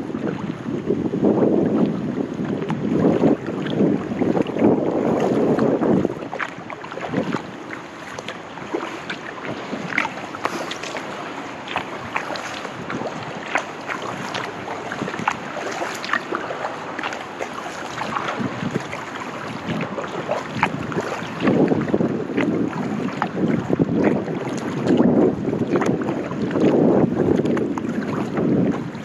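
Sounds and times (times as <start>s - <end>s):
paddle splashing water: 0.0s - 29.0s
water lapping at hull: 0.0s - 29.0s
wind noise on microphone: 0.0s - 29.0s.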